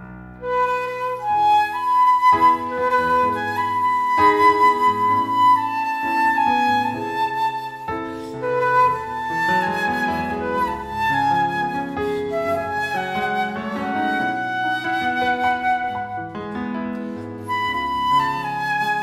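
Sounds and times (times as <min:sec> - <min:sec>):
piano accompaniment: 0:00.0 - 0:19.0
flute playing slow melody: 0:00.4 - 0:19.0.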